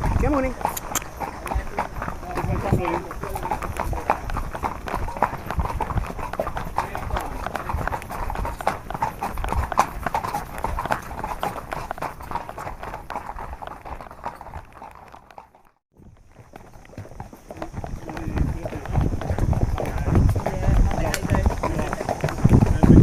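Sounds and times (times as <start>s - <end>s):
horse hooves clip-clopping on hard ground: 0.0s - 23.0s.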